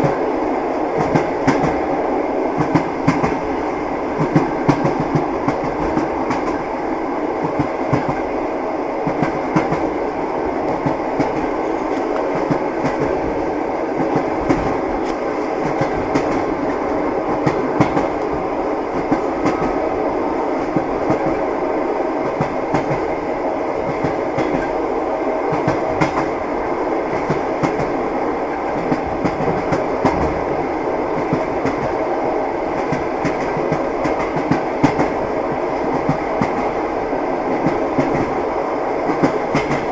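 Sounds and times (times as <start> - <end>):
train rumble from inside carriage: 0.0 - 39.9.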